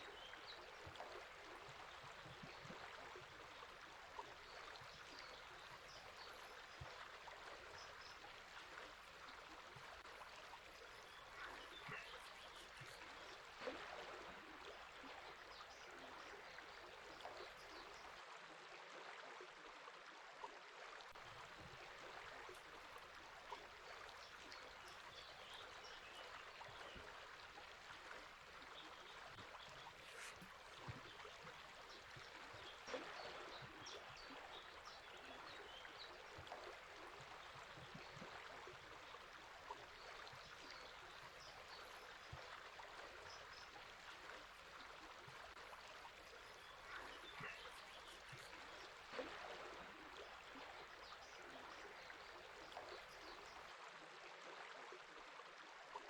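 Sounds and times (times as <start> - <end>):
small birds chirping: 0.0 - 18.1, 21.6 - 53.6
river flowing: 0.0 - 18.2, 21.2 - 53.7.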